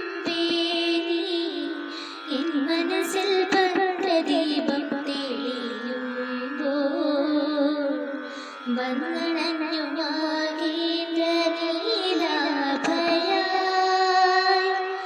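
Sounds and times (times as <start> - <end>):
girl singing devotional song: 0.0 - 15.0.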